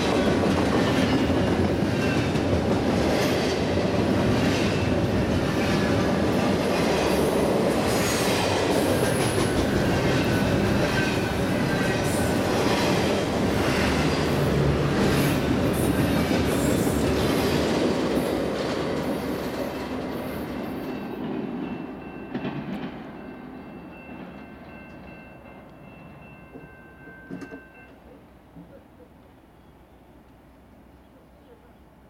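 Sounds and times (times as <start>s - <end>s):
freight train passing: 0.0s - 32.0s.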